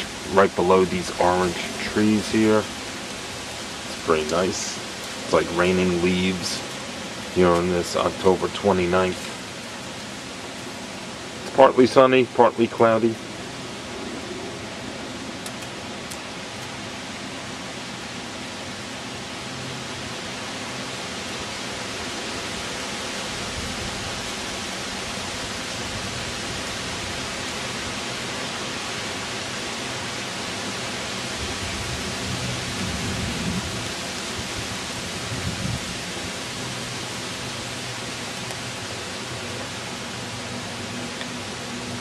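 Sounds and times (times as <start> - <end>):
rushing outdoor hiss: 0.0 - 42.0.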